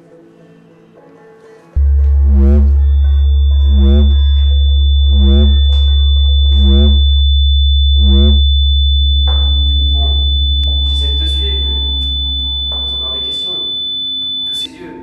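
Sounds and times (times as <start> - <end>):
loud low drone: 1.8 - 14.4
warbling synthetic tone pulsing: 1.8 - 14.6
click: 1.8 - 14.7
thin high whine: 1.8 - 14.9.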